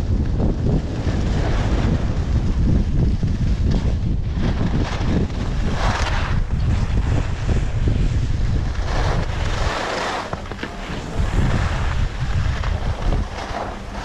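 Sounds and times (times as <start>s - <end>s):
skis scraping over snow: 0.0s - 14.0s
wind buffeting microphone: 0.0s - 14.0s.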